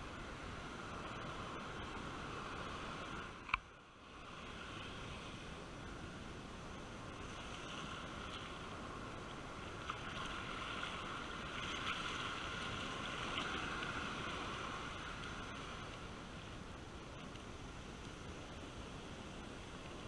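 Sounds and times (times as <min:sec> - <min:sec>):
surf washing up a beach: 0:00.0 - 0:20.0.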